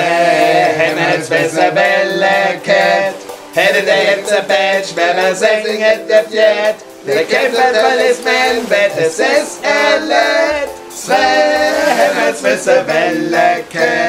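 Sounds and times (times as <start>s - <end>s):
voices singing a cappella: 0.0s - 14.0s.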